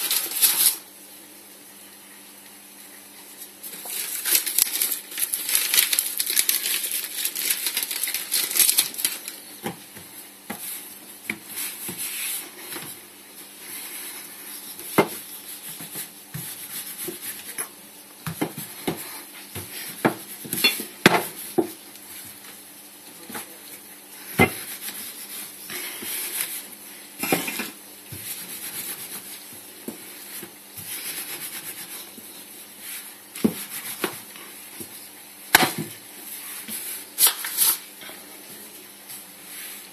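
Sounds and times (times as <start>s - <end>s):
dough rubbing and scraping: 0.0s - 0.9s, 3.3s - 22.6s, 23.2s - 35.2s, 36.0s - 37.9s, 39.4s - 39.9s.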